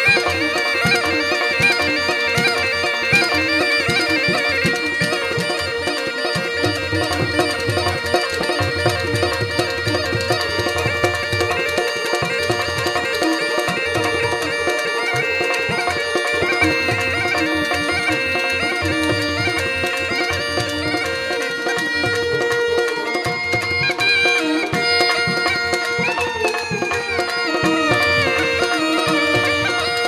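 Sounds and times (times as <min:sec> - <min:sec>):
hand drum rhythm: 0:00.0 - 0:30.0.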